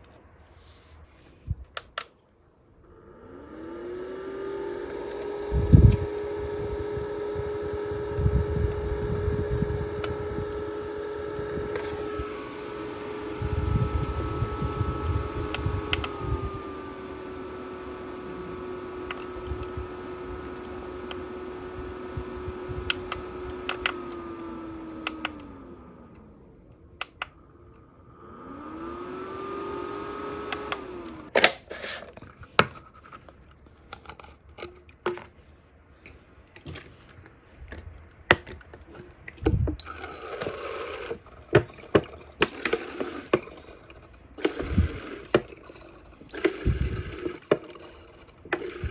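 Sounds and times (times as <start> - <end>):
small fan motor whining: 0.0 - 48.9.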